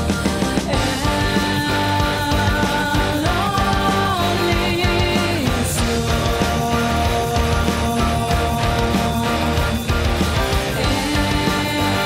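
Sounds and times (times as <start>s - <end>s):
heavy metal band playing: 0.0s - 12.0s.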